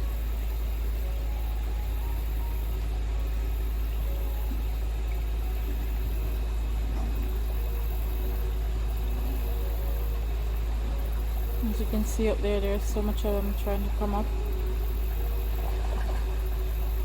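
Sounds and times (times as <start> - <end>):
fast-flowing river water: 0.0 - 17.0.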